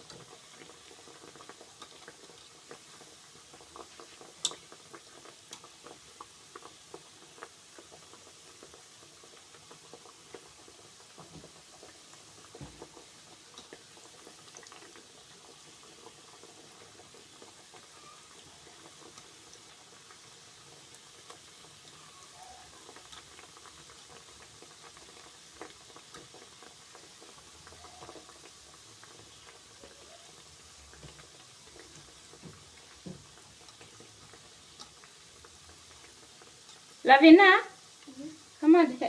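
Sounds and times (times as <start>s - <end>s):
dough sizzling in hot oil: 0.0s - 39.0s.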